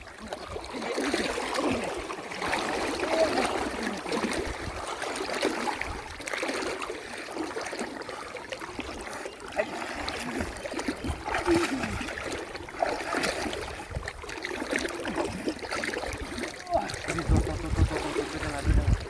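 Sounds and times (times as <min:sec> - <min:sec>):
muddy water sloshing: 0:00.0 - 0:19.0.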